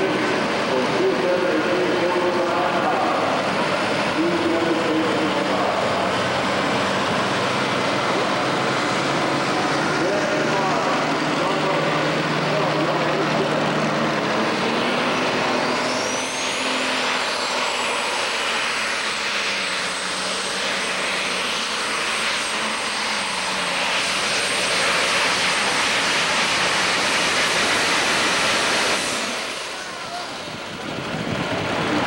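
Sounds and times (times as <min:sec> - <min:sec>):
tractor engine roaring under load: 0:00.0 - 0:32.0.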